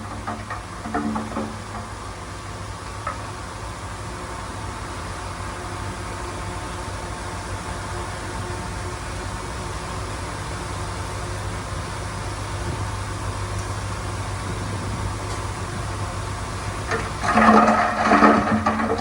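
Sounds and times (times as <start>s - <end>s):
heavy machinery rumbling: 0.0s - 19.0s.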